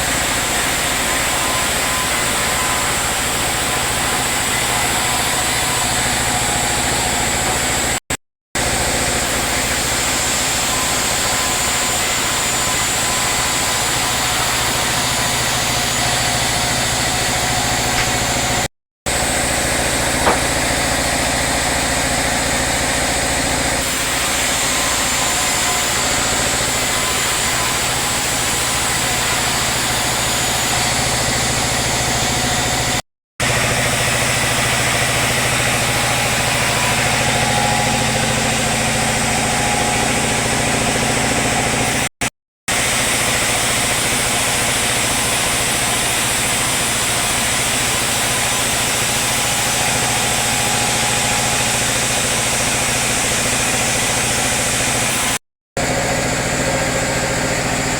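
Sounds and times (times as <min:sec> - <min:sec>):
sawmill machinery humming and whining: 0:00.0 - 0:42.1, 0:42.7 - 0:57.9.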